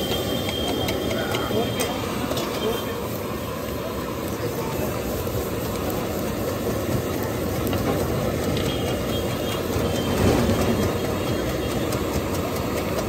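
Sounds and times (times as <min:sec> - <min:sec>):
gas burner roaring: 0:00.0 - 0:13.0
oil bubbling and sizzling: 0:00.0 - 0:13.0.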